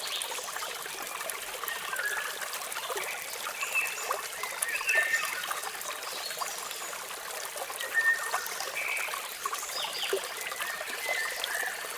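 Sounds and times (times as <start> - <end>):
water falling and trickling: 0.0 - 11.9.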